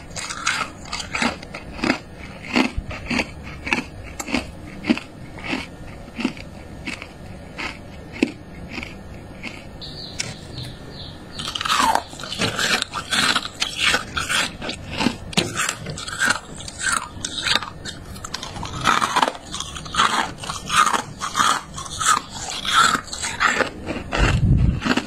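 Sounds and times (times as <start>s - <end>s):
chewing icy crunches: 0.0s - 25.0s.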